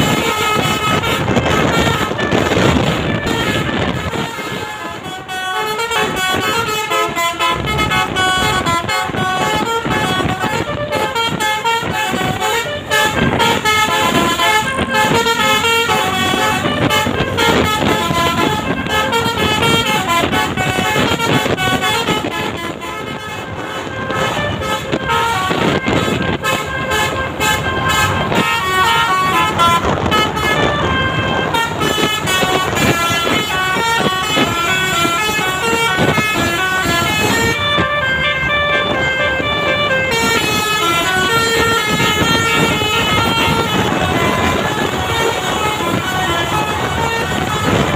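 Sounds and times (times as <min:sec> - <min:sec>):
bus engine: 0:00.0 - 0:47.9
musical air horn notes: 0:00.0 - 0:47.9
passing traffic: 0:00.0 - 0:47.9.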